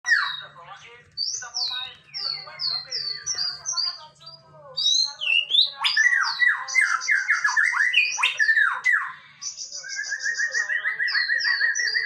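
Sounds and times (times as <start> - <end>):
songbird whistling song: 0.1 - 0.6, 1.2 - 12.0.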